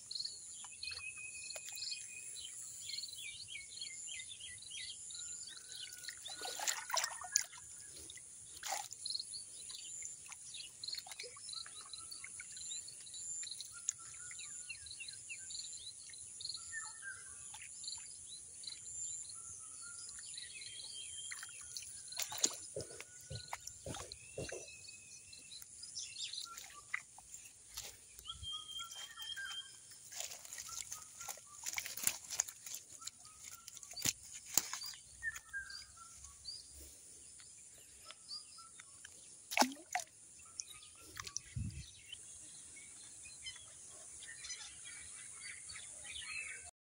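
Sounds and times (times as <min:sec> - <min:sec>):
birds chirping: 0:00.0 - 0:46.7.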